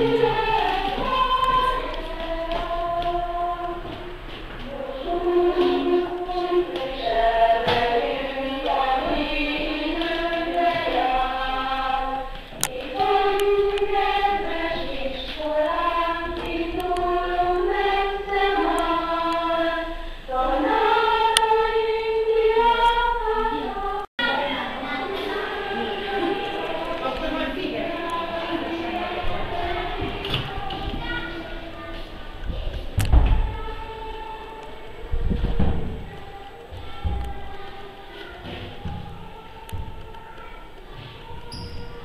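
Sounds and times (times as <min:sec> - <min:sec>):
choir singing slow melody: 0:00.0 - 0:42.0.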